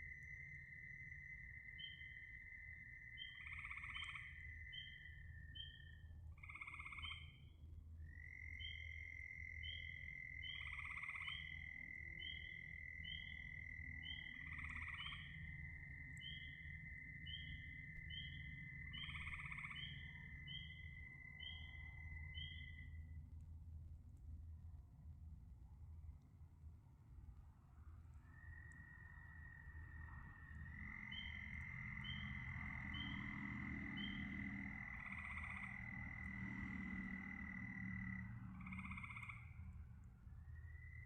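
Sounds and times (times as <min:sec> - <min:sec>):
frog croaking call: 0:00.0 - 0:07.4, 0:08.1 - 0:22.9, 0:28.4 - 0:41.0.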